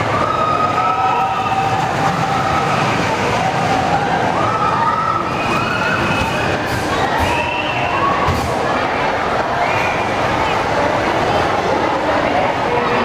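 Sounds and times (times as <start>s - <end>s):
roller coaster rumble: 0.0s - 13.0s.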